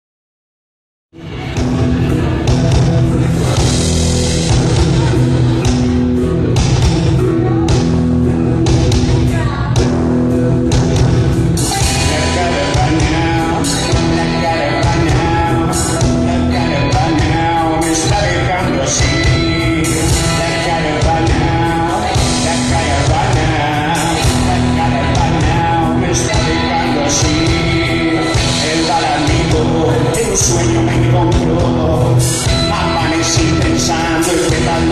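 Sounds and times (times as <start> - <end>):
live reggae rock band playing: 1.2 - 34.9.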